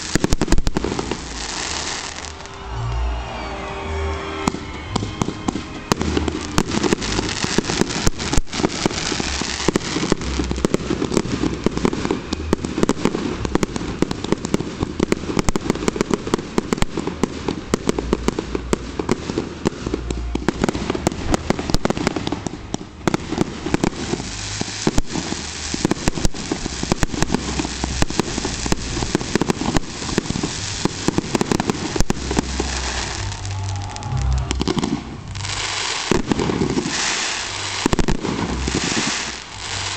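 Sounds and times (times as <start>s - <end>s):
fireworks bangs and crackling: 0.0s - 3.3s, 4.2s - 39.9s.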